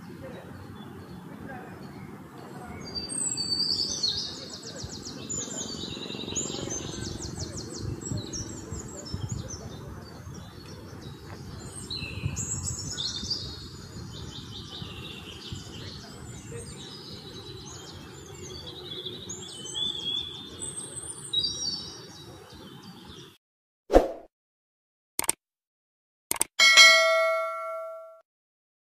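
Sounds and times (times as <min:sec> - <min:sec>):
birds chirping and trilling: 0:00.0 - 0:23.4.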